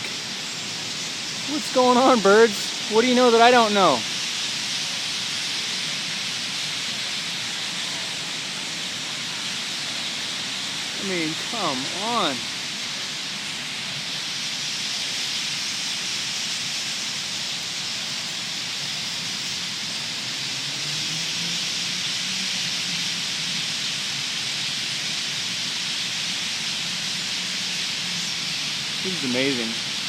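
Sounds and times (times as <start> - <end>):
flock of birds chattering: 0.0 - 20.4, 21.6 - 30.0.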